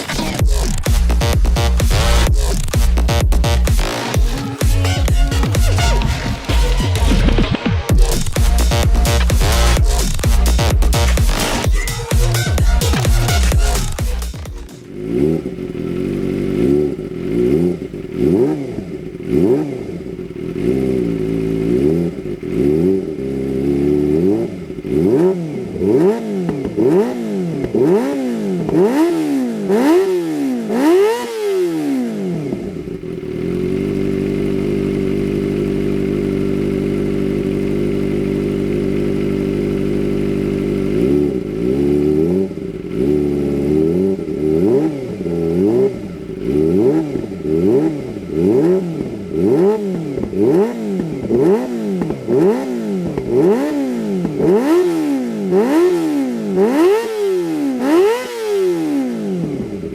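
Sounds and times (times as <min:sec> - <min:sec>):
motorcycle engine idling: 0:00.0 - 0:59.9
motorcycle engine revving: 0:00.0 - 0:59.9.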